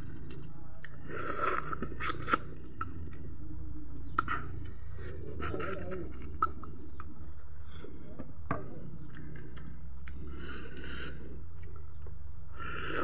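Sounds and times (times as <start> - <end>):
person chewing and smacking: 0.0 - 3.3, 4.0 - 7.2, 9.0 - 13.0.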